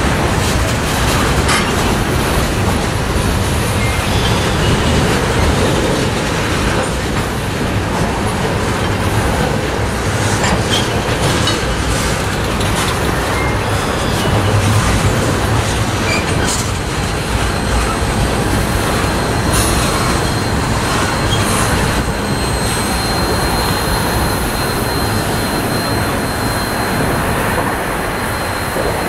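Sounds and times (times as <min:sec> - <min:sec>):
wheels clacking over rail joints: 0:00.0 - 0:24.7
freight train wheels rumbling: 0:00.0 - 0:29.0.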